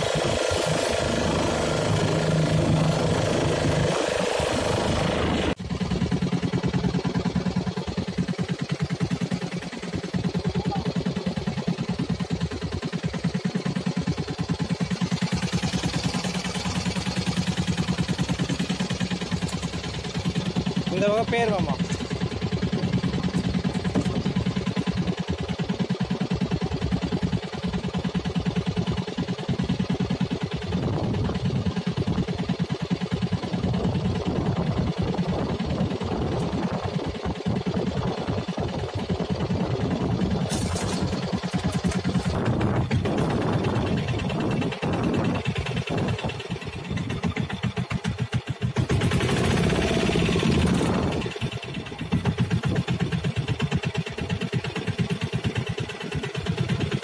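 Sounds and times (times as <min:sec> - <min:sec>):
boat engine idling: 0:00.0 - 0:57.0.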